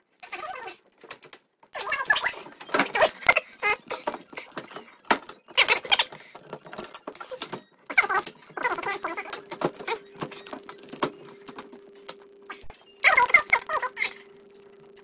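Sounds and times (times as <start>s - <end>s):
faint steady hum: 1.9s - 15.0s.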